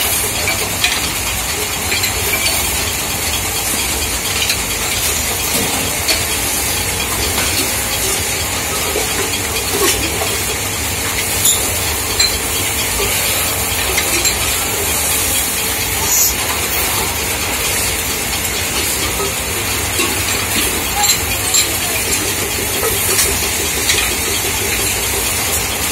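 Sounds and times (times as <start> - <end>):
metal-spinning lathe hiss and hum: 0.0 - 25.9.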